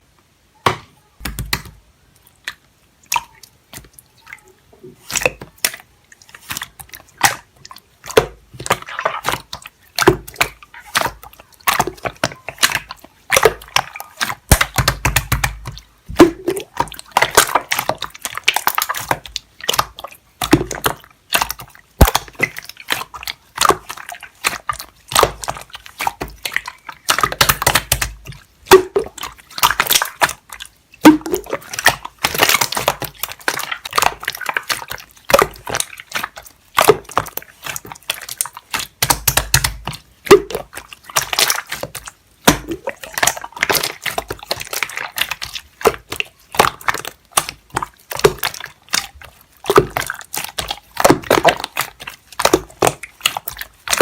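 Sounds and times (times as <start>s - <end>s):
wet clicks and squelches: 1.2s - 54.0s.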